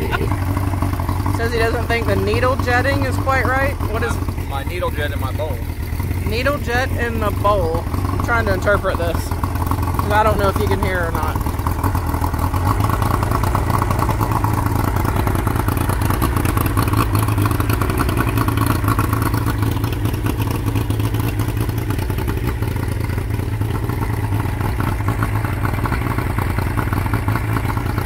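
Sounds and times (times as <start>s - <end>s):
outboard engine running: 0.0s - 28.0s.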